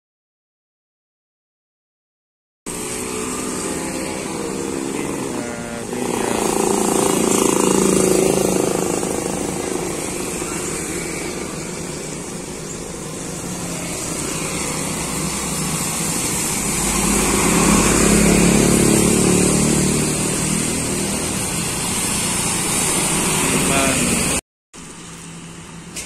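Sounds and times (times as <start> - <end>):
motorcycles passing: 2.7 - 24.4
tyres hissing on wet road: 2.7 - 26.0
coach engine passing: 2.8 - 24.4.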